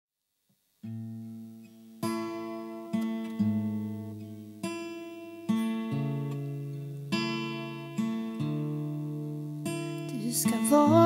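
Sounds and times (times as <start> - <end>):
acoustic guitar chords ringing: 0.8 - 11.0.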